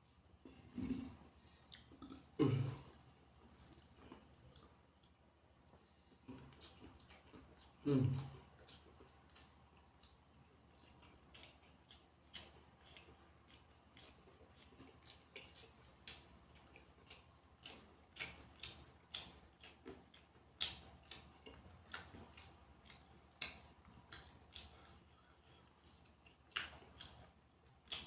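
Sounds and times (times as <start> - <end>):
person chewing crunchy food: 0.3 - 28.0.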